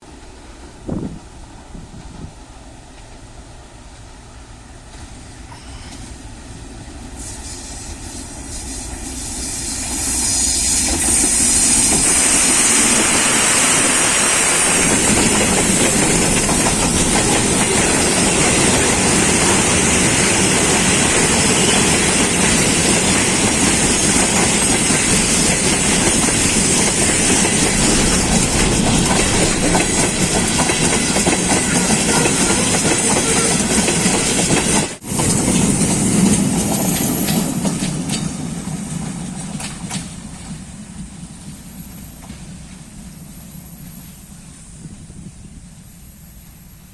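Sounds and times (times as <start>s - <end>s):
freight train rolling past: 0.0s - 46.9s
train wheels clickety-clack: 6.8s - 44.7s.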